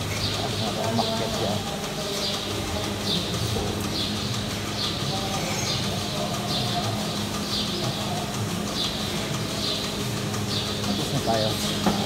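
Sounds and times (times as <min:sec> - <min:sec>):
low machinery hum: 0:00.0 - 0:12.0
milking pulsators hissing: 0:00.0 - 0:12.0.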